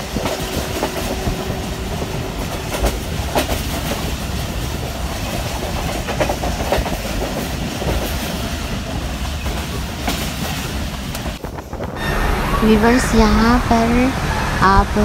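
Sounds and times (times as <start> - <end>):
train wheel clacks: 0.0 - 13.0
train wheels rumbling on track: 0.0 - 15.0.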